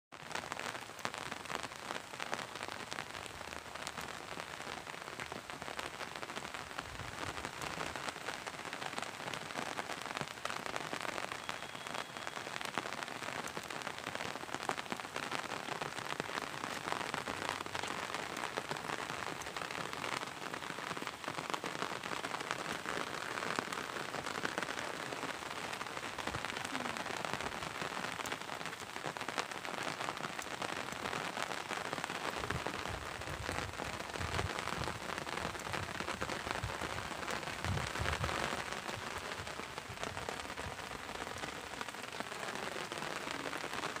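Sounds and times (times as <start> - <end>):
rain falling: 0.1 - 44.0.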